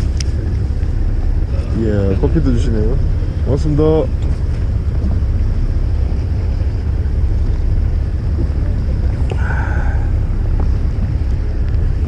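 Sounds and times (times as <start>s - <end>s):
boat engine rumbling: 0.0s - 12.0s
wind on microphone: 0.0s - 12.0s.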